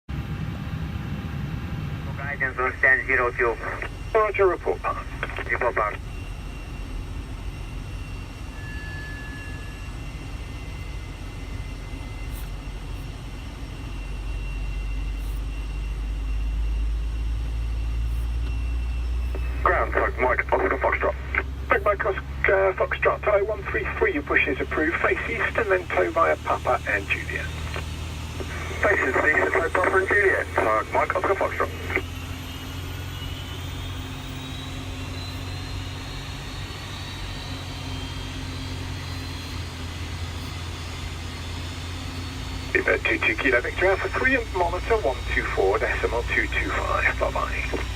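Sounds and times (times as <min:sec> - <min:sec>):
high whine: 0:00.1 - 0:47.9.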